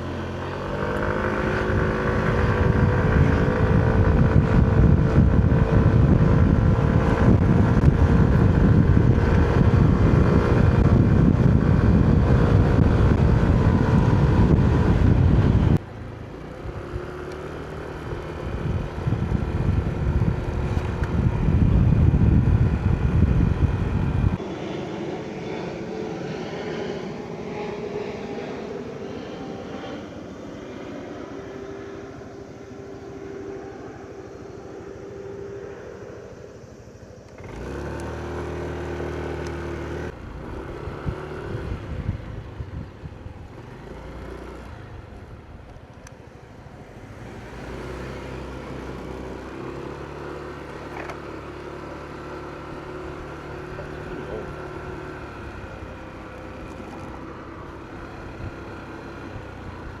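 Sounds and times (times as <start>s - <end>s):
vehicle engines running: 0.0s - 24.7s, 31.0s - 60.0s.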